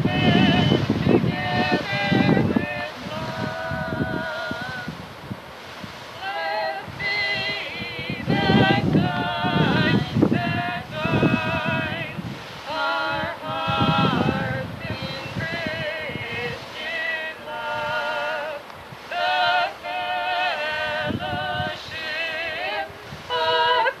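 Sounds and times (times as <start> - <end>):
women singing a duet: 0.0 - 24.0.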